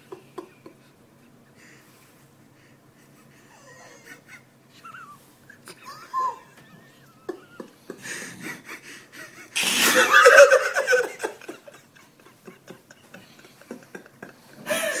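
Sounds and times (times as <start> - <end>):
people laughing quietly: 2.9 - 15.0.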